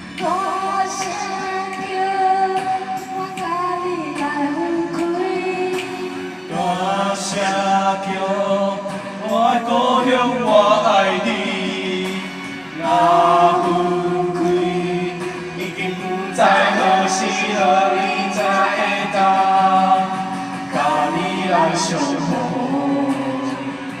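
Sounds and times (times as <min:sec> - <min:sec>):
voices singing slow song: 0:00.0 - 0:24.0.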